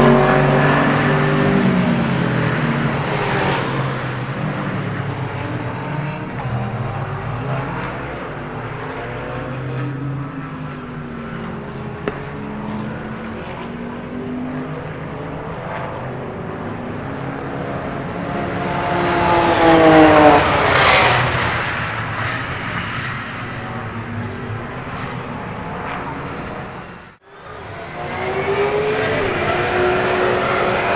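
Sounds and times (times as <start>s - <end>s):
distant racing car engines: 0.0s - 30.9s
racing car passing close: 0.0s - 30.9s.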